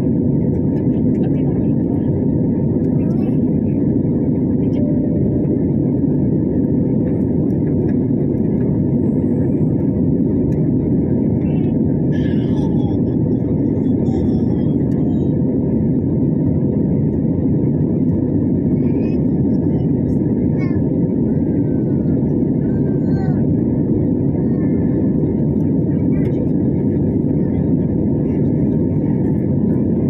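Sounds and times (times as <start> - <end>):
jet airliner cabin rumble: 0.0 - 30.0.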